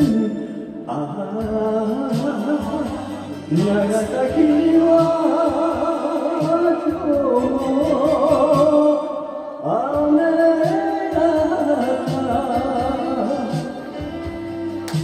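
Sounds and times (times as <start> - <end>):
low beat: 0.0 - 9.0, 9.7 - 15.0
man singing a ballad: 0.0 - 14.3
karaoke backing track: 0.0 - 15.0.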